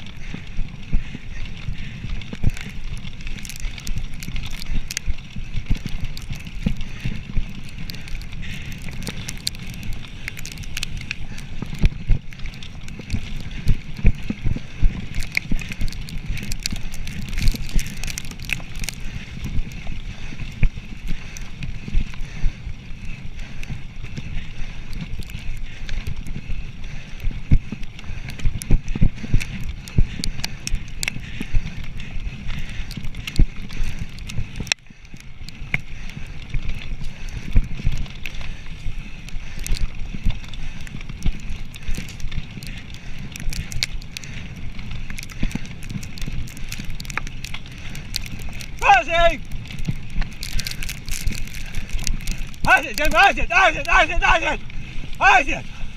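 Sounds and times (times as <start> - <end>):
bike rattles and clicks: 0.0 - 55.9
bike tyres rumbling on dirt: 0.0 - 55.9.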